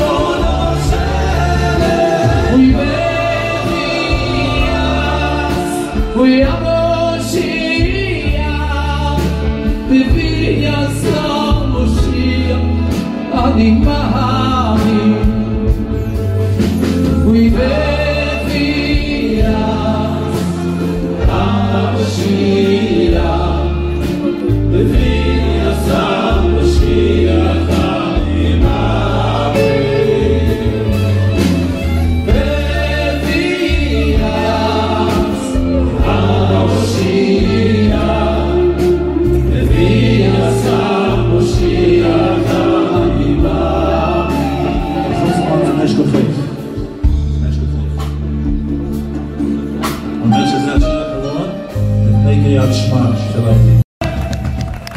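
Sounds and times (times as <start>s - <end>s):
men singing into microphones: 0.0s - 15.8s, 17.0s - 31.5s, 32.1s - 46.9s
live band with bass line: 0.0s - 54.9s.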